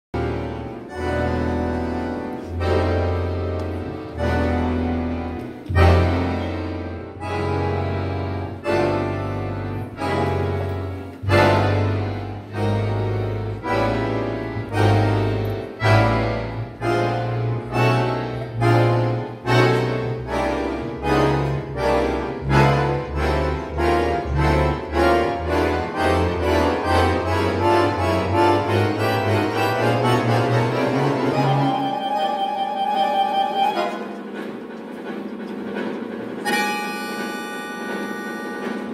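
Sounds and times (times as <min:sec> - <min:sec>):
accordions playing chords: 0:00.2 - 0:38.9
bass notes: 0:00.2 - 0:38.9.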